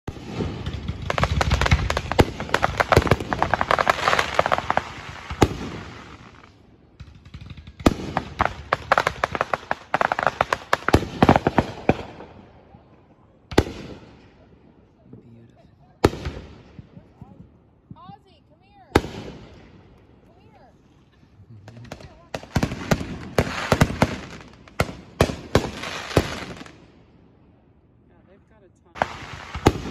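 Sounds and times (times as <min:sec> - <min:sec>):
fireworks bangs: 0:00.0 - 0:20.9, 0:21.5 - 0:27.2, 0:28.9 - 0:29.9
fireworks crackling: 0:00.0 - 0:27.1, 0:28.1 - 0:29.9.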